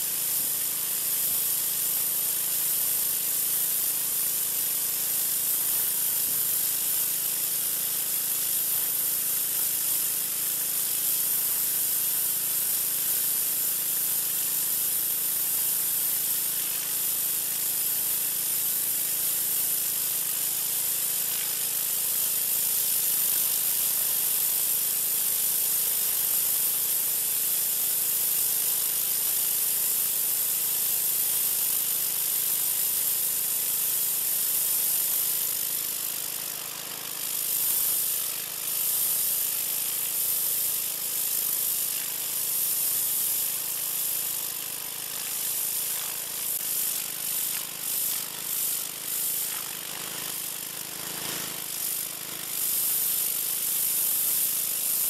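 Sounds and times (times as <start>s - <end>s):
water spray hissing on concrete: 0.0s - 55.0s.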